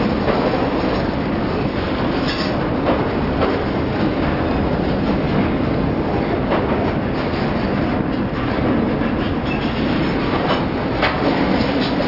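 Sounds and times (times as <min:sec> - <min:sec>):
freight train rumbling past: 0:00.0 - 0:12.0
steel wheels clicking on rails: 0:00.0 - 0:12.0.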